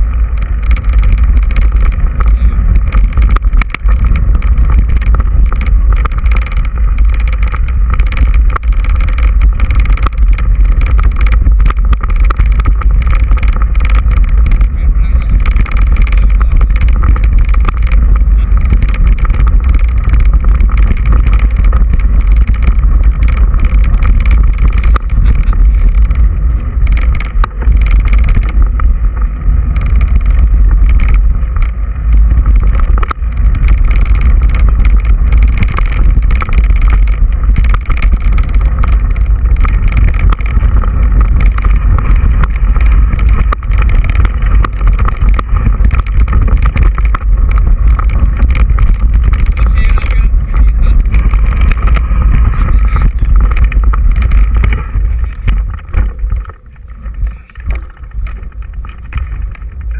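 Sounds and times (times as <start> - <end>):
bike rolling over stony track: 0.0 - 59.9
wind buffeting: 0.0 - 59.9.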